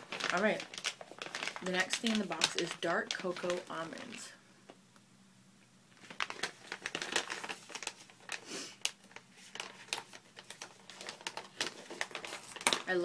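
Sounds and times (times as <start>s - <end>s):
plastic pouch crinkling: 0.0s - 4.4s, 5.9s - 13.0s.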